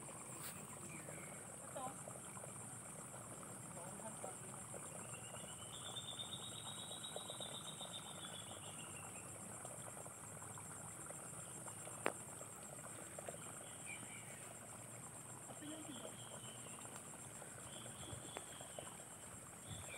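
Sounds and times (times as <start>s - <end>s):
field insects chirring: 0.0s - 19.9s.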